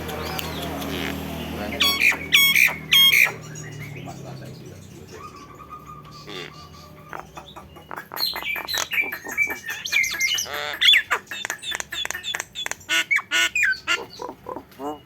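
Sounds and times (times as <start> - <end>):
myna chirps and whistles: 0.2 - 4.2, 5.1 - 15.0.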